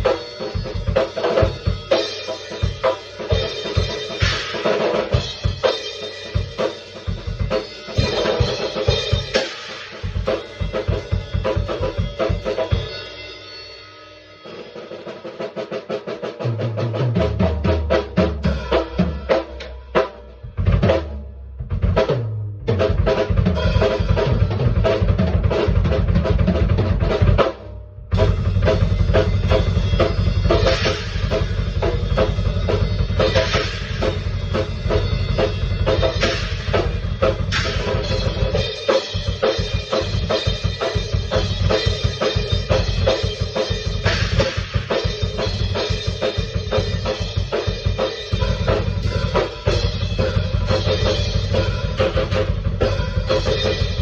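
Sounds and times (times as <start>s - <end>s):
drum kit playing: 0.0s - 54.0s.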